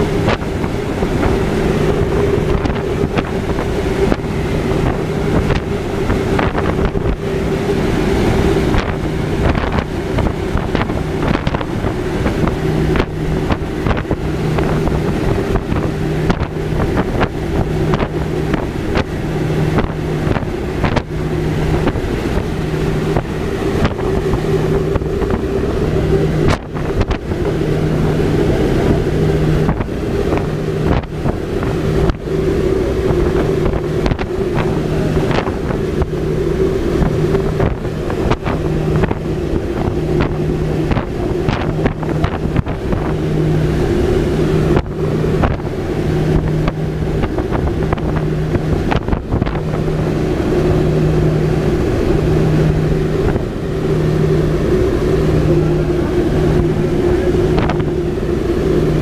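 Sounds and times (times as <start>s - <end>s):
low hum: 0.0s - 59.0s
turboprop engines droning: 0.0s - 59.0s
wind buffeting microphone: 0.0s - 59.0s.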